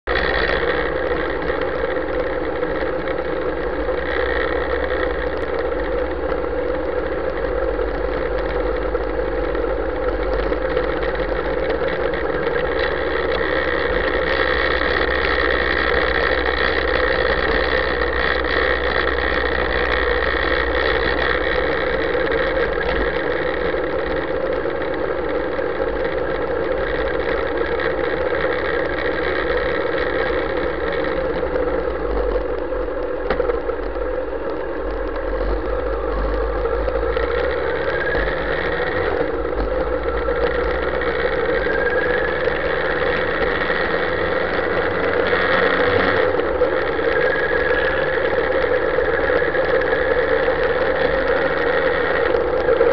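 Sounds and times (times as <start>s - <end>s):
motorcycle engine at low revs: 0.0s - 52.9s.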